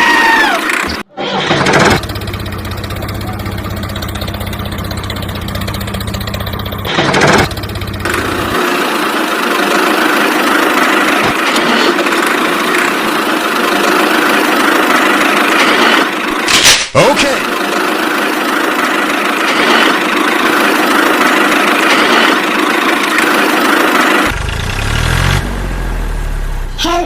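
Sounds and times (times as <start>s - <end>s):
small tractor engine running: 0.2s - 16.5s, 17.2s - 27.0s.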